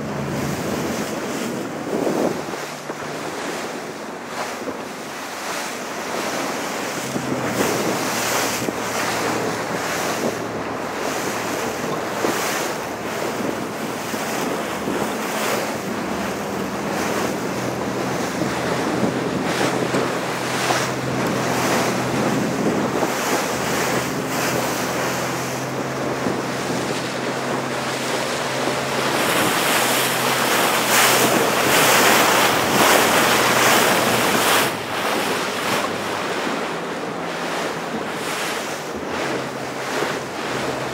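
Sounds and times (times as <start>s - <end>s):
choppy water slapping boat: 0.0s - 40.9s
low engine hum: 0.0s - 40.9s
wind buffeting microphone: 0.0s - 40.9s.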